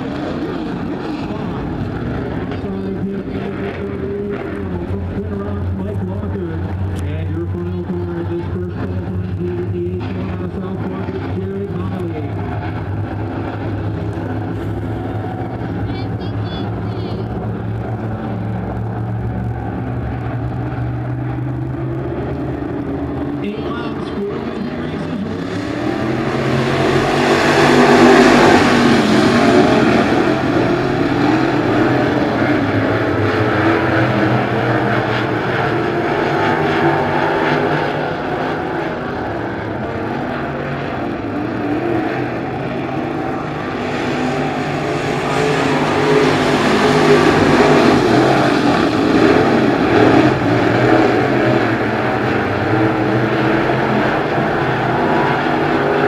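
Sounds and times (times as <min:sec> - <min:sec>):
race car engines roaring: 0:00.0 - 0:56.0.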